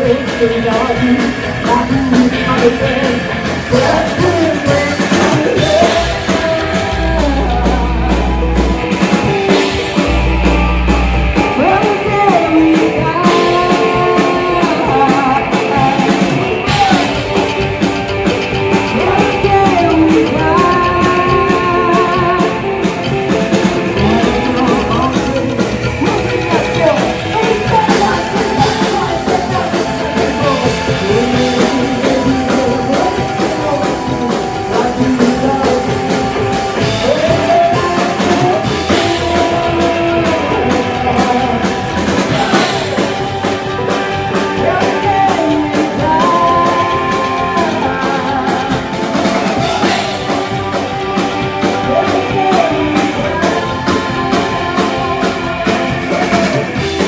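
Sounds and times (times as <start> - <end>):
person singing: 0.0 - 57.0
rock and roll song: 0.0 - 57.0.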